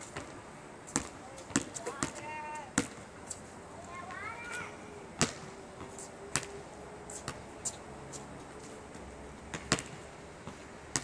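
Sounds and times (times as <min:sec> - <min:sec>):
basketball bouncing on asphalt: 0:00.0 - 0:03.4, 0:04.0 - 0:08.3, 0:08.9 - 0:11.0.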